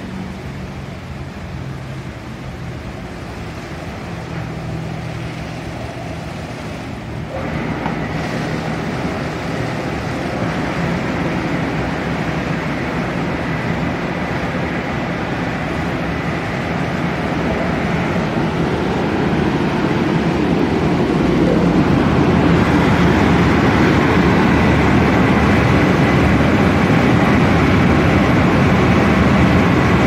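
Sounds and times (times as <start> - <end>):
water spray rushing: 0.0 - 30.0.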